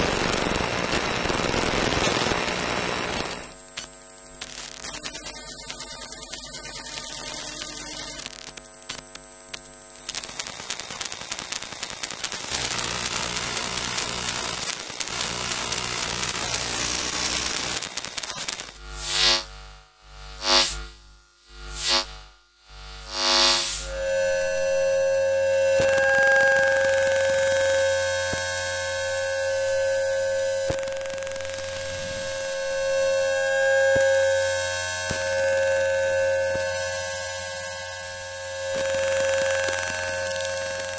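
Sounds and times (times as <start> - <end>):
electrical hum and static crackle: 0.0 - 40.9.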